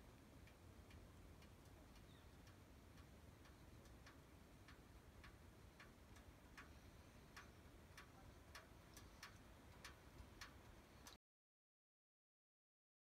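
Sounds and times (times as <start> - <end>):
faint ticking: 0.0 - 11.2.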